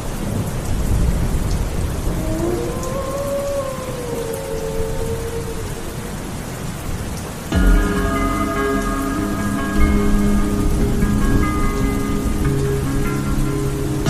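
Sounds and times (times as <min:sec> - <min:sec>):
low rumble of thunder: 0:00.0 - 0:14.0
rain hissing: 0:00.0 - 0:14.0.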